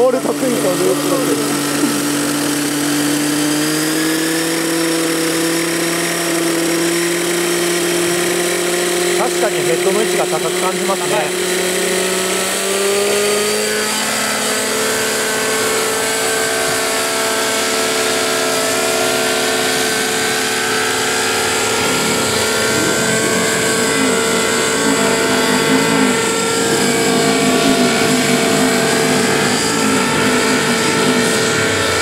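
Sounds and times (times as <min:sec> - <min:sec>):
model helicopter engine and rotor: 0:00.0 - 0:32.0.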